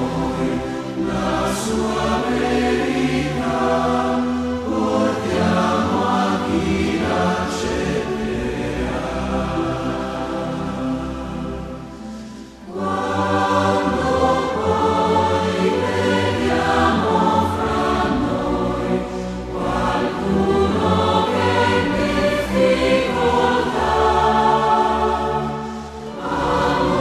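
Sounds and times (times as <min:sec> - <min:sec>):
choir singing sustained chords: 0:00.0 - 0:27.0.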